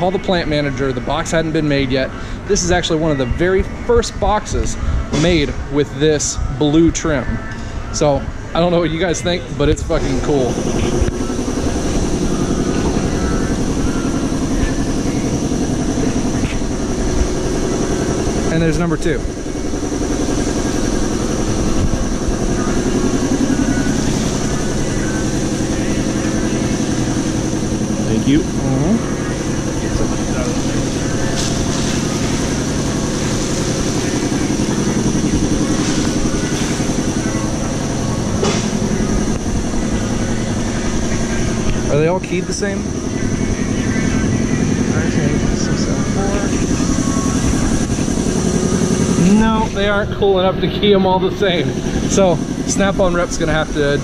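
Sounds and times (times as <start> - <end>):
steady mechanical rumble: 0.0 - 54.0.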